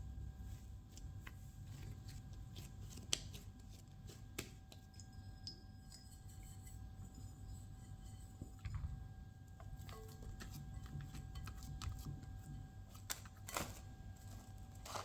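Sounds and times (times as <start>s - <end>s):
hands handling dough clicks and rustles: 0.0s - 15.0s
low steady hum: 0.0s - 15.0s.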